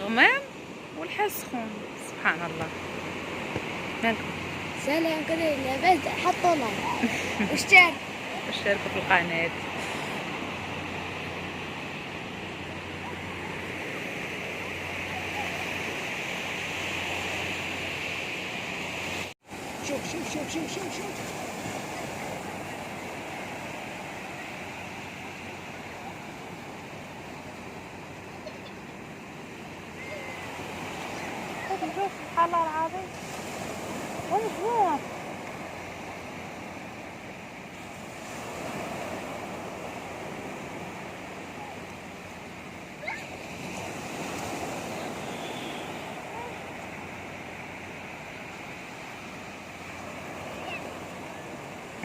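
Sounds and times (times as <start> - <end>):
sea surf: 0.0 - 52.0
waves breaking on beach: 0.0 - 52.0
wind: 0.0 - 52.0.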